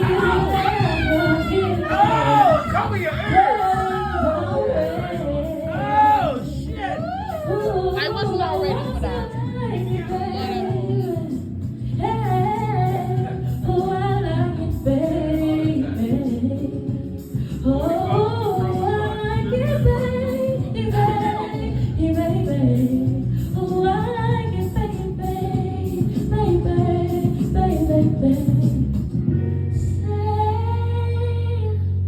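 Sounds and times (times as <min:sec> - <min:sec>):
woman singing: 0:00.0 - 0:29.0, 0:29.7 - 0:32.0
backing music with low bass: 0:00.0 - 0:32.0.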